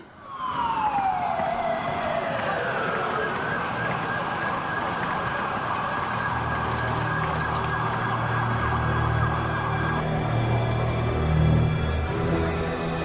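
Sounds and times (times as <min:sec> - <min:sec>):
low drone: 0:00.0 - 0:13.0
siren wailing: 0:00.0 - 0:13.0
street noise: 0:00.0 - 0:13.0.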